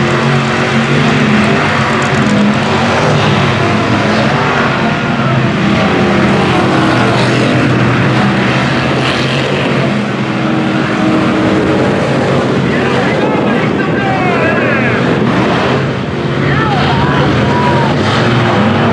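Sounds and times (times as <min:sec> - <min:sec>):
truck engine running hard: 0:00.0 - 0:18.9.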